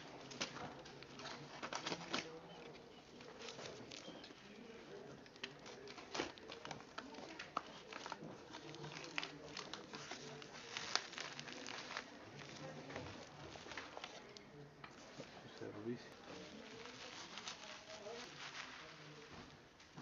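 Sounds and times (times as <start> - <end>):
plastic and paper crinkling: 0.0 - 20.0.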